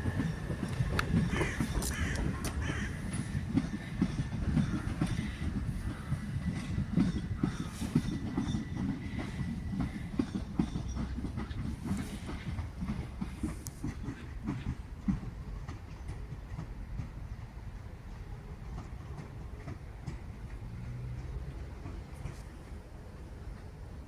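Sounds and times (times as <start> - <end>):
train rumbling on track: 0.0 - 24.0
wheels clicking over rail joints: 0.0 - 24.0.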